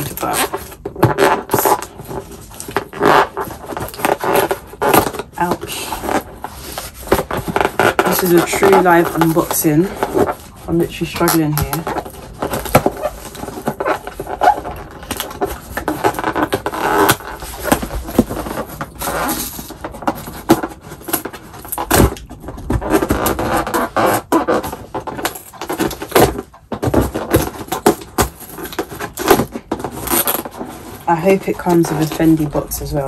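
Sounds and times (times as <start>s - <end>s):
fingernails scraping packing tape: 0.0s - 32.6s.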